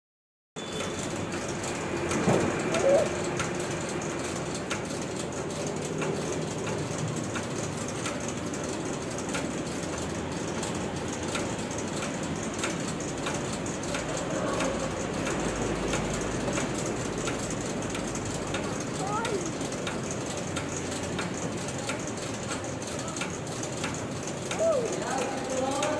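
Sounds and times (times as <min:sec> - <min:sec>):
conveyor belt running: 0:00.6 - 0:25.9
light mechanical clicks: 0:00.6 - 0:25.9.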